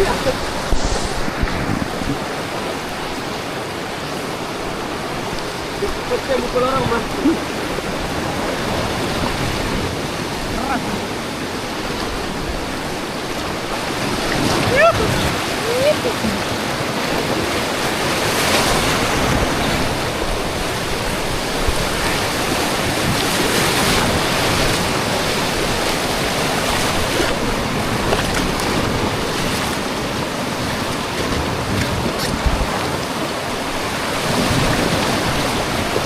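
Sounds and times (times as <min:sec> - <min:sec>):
river water rushing and splashing: 0:00.0 - 0:36.0.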